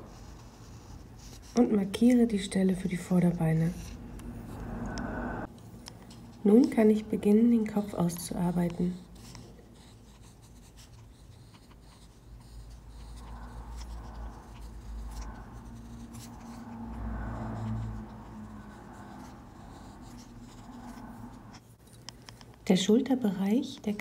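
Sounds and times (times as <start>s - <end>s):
pencil scratching on paper: 0.0s - 4.7s, 6.1s - 22.6s.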